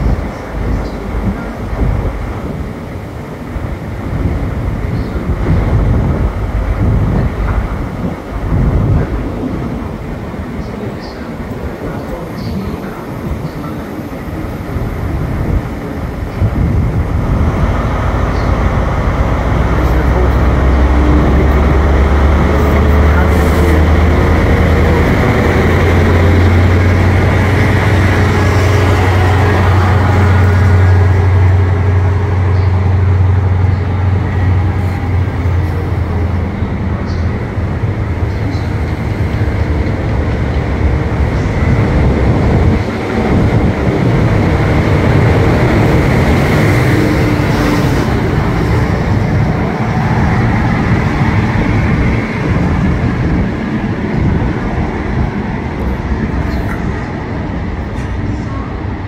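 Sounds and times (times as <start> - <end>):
diesel train drone: 0.0 - 59.0
train coaches rumbling on rails: 0.0 - 59.0.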